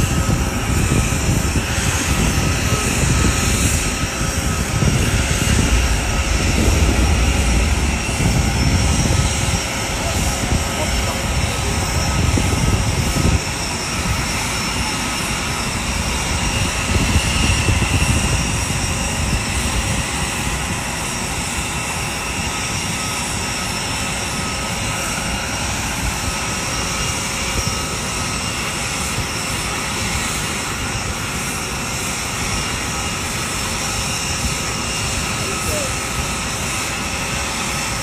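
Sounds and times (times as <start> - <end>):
high steady jet whines: 0.0 - 38.0
jet engine rumble: 0.0 - 38.0.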